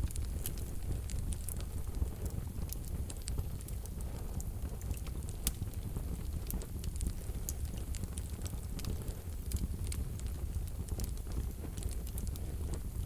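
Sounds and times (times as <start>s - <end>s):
fire crackling and popping: 0.0s - 13.0s
rumble of flames: 0.0s - 13.0s.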